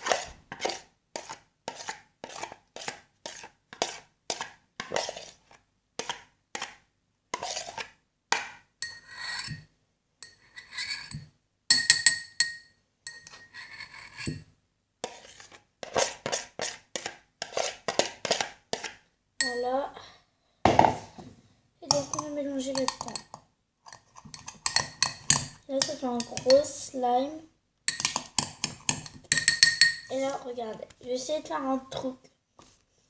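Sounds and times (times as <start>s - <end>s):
utensil stirring slime: 0.0s - 9.6s, 10.2s - 19.8s, 21.8s - 27.1s, 27.9s - 31.2s.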